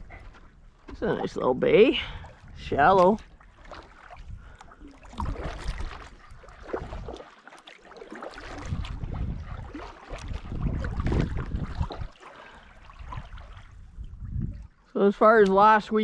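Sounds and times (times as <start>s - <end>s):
wind rumbling on microphone: 0.0s - 7.2s, 8.4s - 16.0s
paddle strokes splashing in water: 0.0s - 15.9s.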